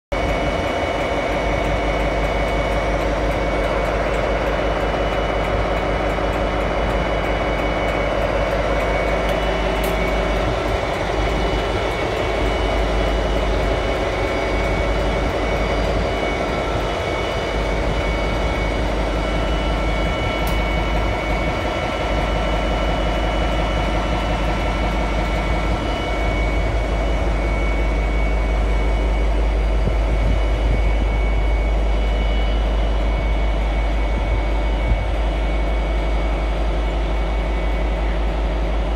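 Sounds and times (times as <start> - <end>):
high whine: 0.1 - 38.9
locomotive engine rumbling: 0.1 - 38.9.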